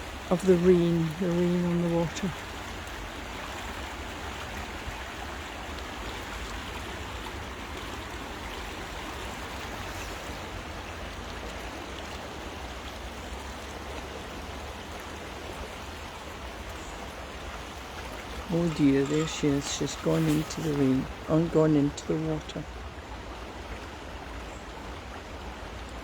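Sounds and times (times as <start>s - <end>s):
rain falling on water: 0.0s - 26.0s
river rushing: 0.0s - 26.0s.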